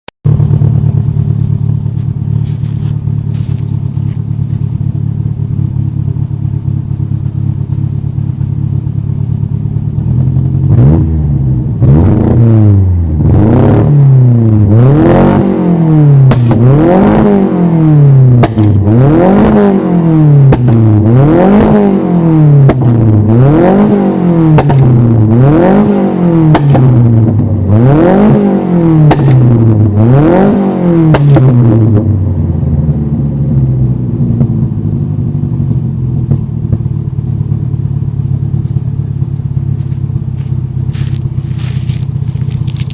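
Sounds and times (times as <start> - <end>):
car engine idling and revving: 0.2 - 42.9.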